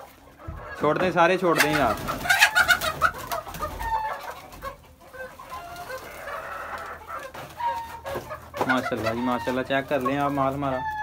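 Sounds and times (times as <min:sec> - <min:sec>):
hens clucking and squawking: 0:00.0 - 0:11.0.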